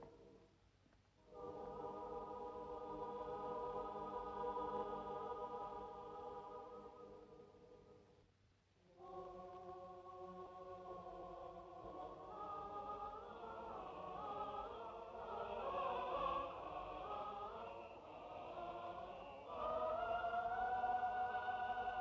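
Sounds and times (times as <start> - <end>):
choir singing held chords: 1.2 - 8.2, 8.9 - 22.0.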